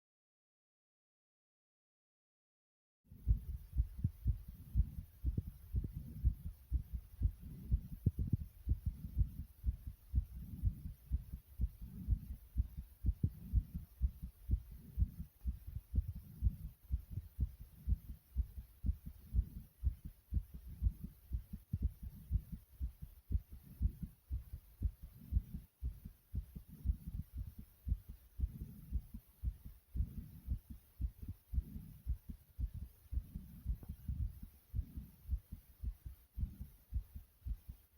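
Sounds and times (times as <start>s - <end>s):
heart beating fast: 3.1s - 37.9s.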